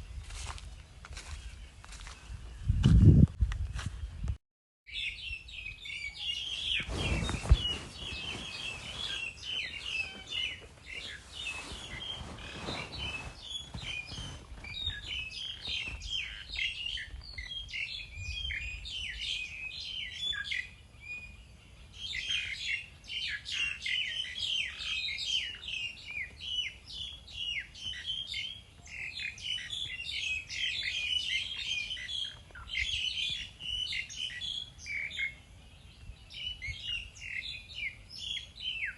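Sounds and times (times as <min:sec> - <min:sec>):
small birds chirping: 0:03.9 - 0:38.9.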